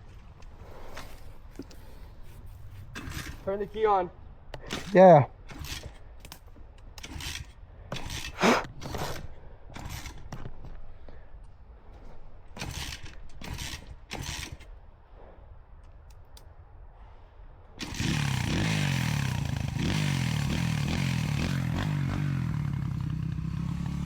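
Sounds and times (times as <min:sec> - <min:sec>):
dirt bike kick-starter scraping: 0:00.0 - 0:15.4, 0:17.8 - 0:24.0.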